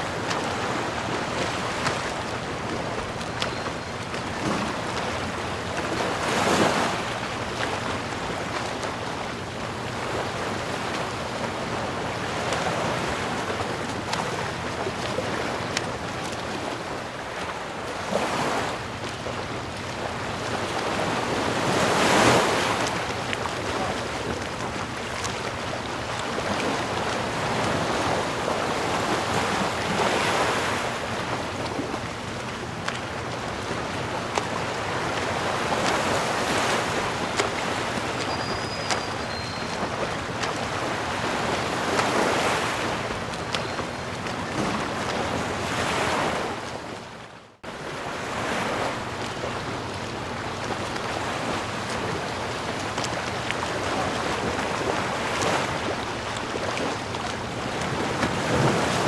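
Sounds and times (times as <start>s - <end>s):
ocean surf washing: 0.0s - 59.0s
waves breaking: 0.0s - 59.0s.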